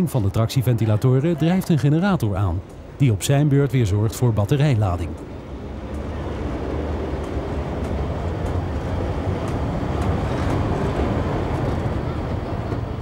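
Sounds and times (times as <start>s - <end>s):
low hum of traction fans: 0.0s - 13.0s
train wheels rumbling on rails: 0.0s - 13.0s.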